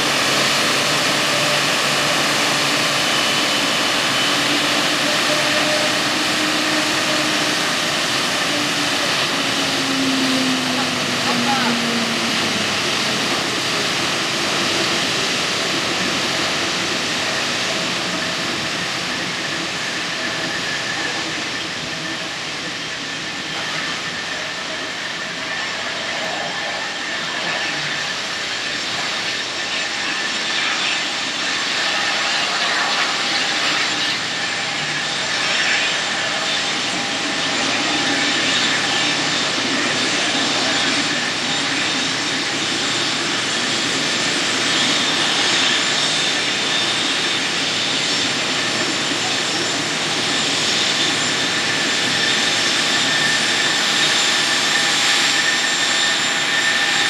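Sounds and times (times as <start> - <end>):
high engine whine: 0.0 - 57.0
jet engines whooshing: 0.0 - 57.0.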